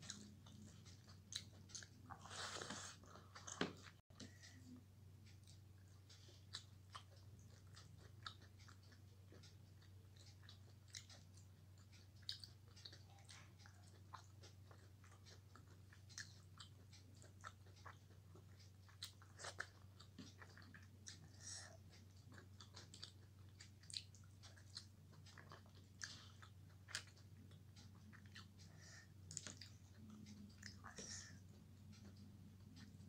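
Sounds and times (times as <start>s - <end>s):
chewing with mouth clicks: 0.0s - 33.0s
low steady hum: 0.0s - 33.0s.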